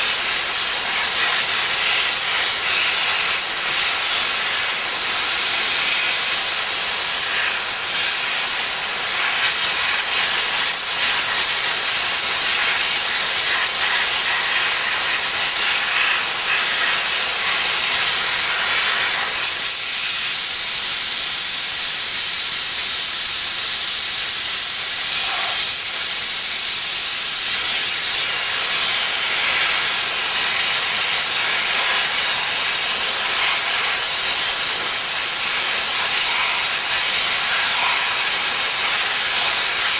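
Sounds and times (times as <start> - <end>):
steam jet hissing: 0.0 - 39.9.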